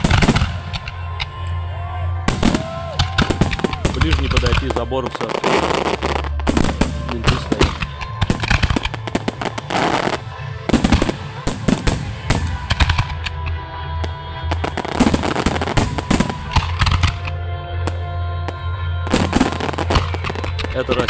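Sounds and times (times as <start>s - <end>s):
fireworks bangs and crackles: 0.0s - 1.6s, 2.2s - 21.0s
music playing: 0.0s - 21.0s.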